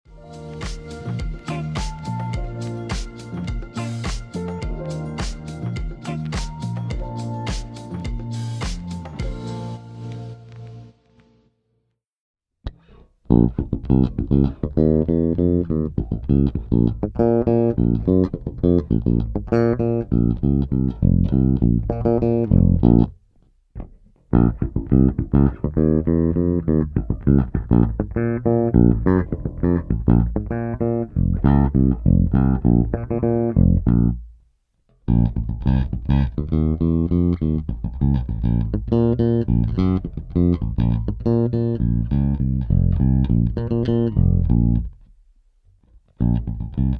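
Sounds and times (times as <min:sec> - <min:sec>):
bass guitar plucked notes: 0:00.1 - 0:09.8, 0:12.6 - 0:23.2, 0:23.8 - 0:34.4, 0:35.0 - 0:45.0, 0:46.1 - 0:46.9.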